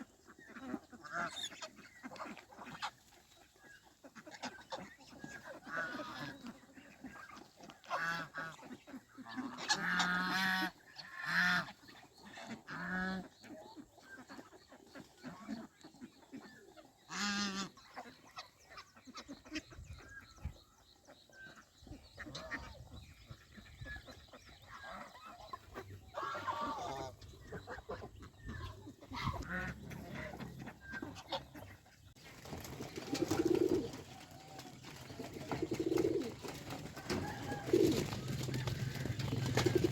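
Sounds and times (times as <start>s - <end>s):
soft fowl calls: 0.0s - 39.9s
geese honking: 0.1s - 19.7s, 21.4s - 39.9s.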